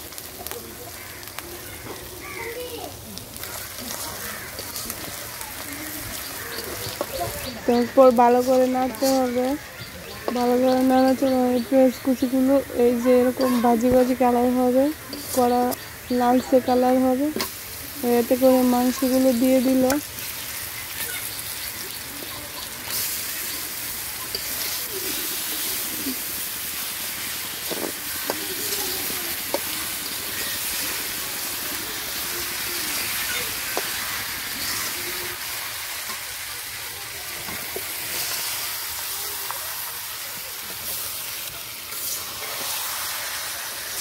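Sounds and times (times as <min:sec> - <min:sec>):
meat sizzling in hot oil: 0:00.0 - 0:44.0.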